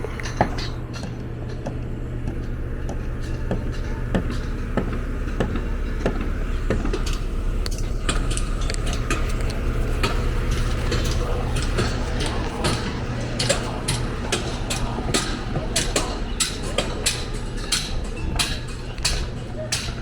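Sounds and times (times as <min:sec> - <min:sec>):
low engine hum: 0:00.0 - 0:20.0
sharp clicks and knocks: 0:00.0 - 0:20.0.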